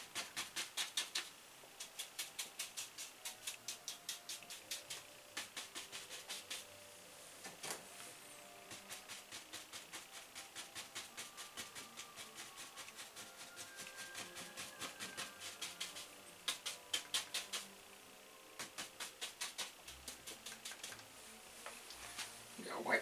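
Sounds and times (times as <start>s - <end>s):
brush tapping on canvas: 0.0s - 6.7s, 8.6s - 17.7s, 18.6s - 22.3s.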